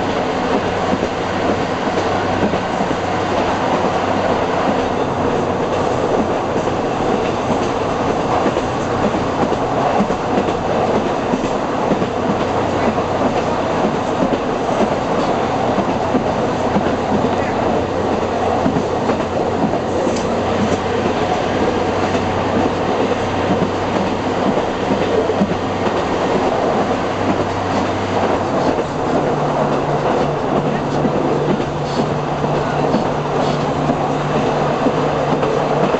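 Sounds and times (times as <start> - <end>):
wheels rumbling on rails: 0.0 - 35.9.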